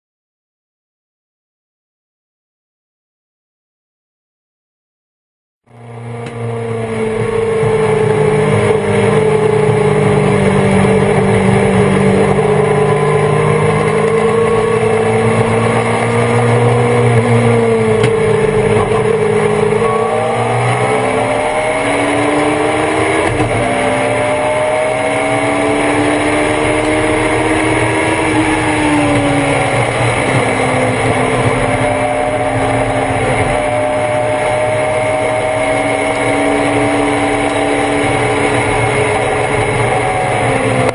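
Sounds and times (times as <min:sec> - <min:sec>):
race car engine under load: 0:05.7 - 0:40.9.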